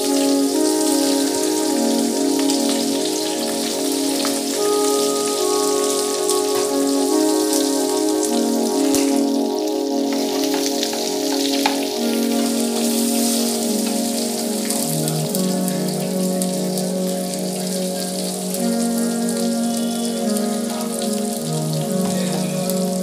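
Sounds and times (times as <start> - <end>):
hot oil sizzling and crackling: 0.0 - 23.0
instrumental music with held notes: 0.0 - 23.0.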